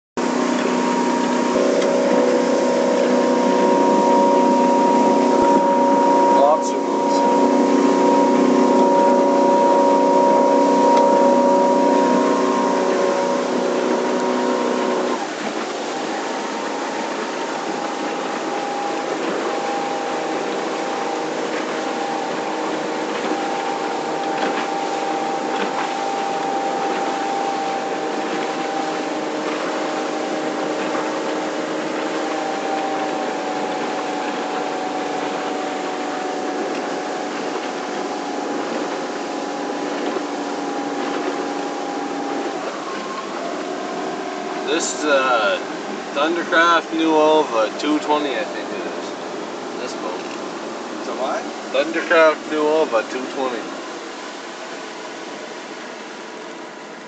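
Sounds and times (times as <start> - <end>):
water wash and hull noise: 0.0 - 57.0
motorboat engine running: 0.2 - 57.0.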